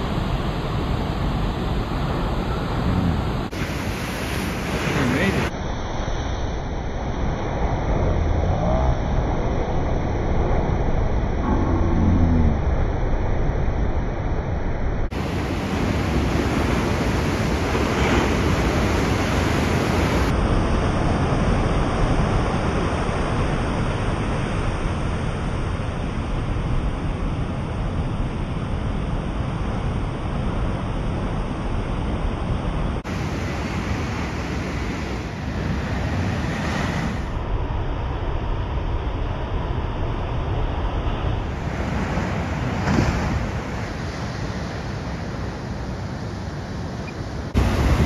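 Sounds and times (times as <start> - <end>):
ocean surf breaking: 0.0 - 5.6, 15.1 - 48.0.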